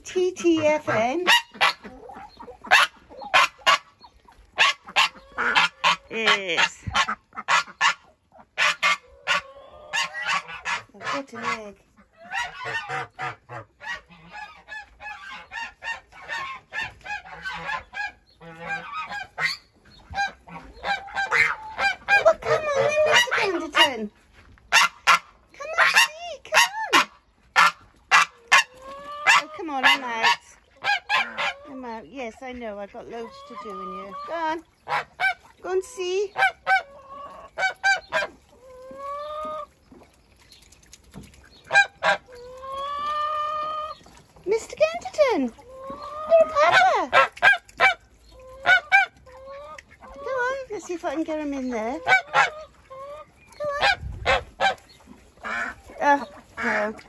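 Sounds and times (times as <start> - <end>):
geese honking: 0.3 - 24.1, 24.7 - 31.9, 33.0 - 39.8, 41.7 - 57.0.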